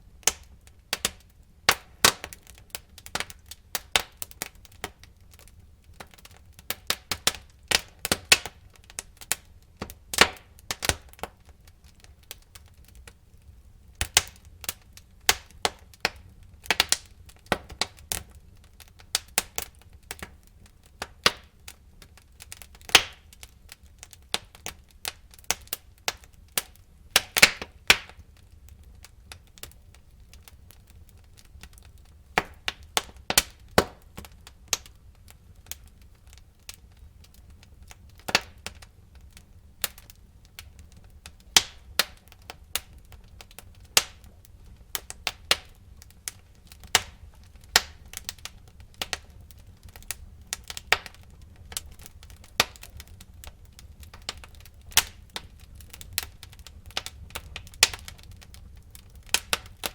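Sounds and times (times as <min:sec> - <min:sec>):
logs crackling and popping: 0:00.0 - 0:59.9
soft rumble of flame: 0:00.0 - 0:59.9.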